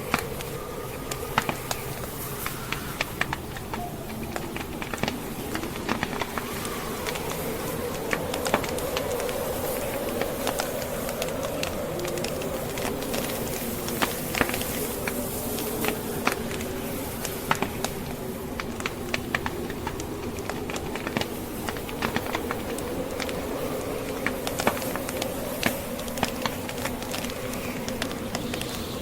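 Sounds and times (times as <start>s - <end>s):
burning logs crackling: 0.0s - 29.0s
fire popping: 0.0s - 29.0s
howling blizzard wind: 0.0s - 29.0s.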